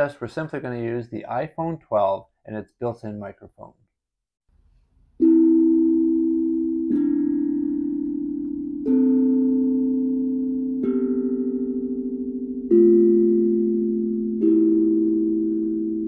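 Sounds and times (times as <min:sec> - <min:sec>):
background noise: 0:00.0 - 0:16.0.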